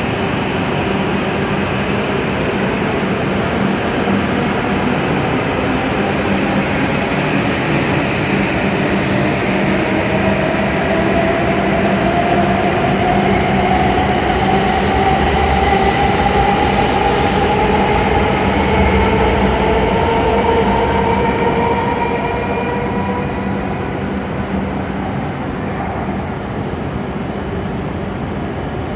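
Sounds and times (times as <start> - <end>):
rush of moving train: 0.0 - 28.9.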